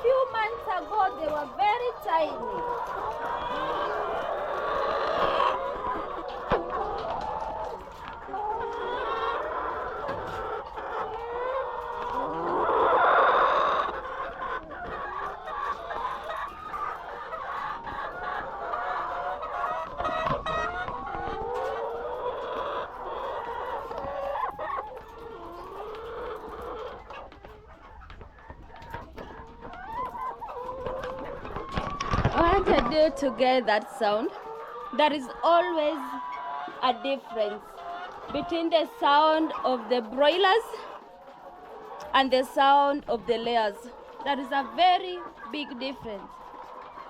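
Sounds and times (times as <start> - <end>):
hens clucking and calling: 0.0 - 47.0.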